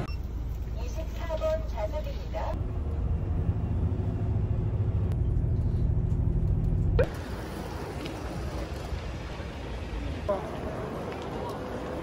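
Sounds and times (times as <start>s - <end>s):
bus engine rumbling: 0.0s - 12.0s
even background noise: 0.0s - 12.0s.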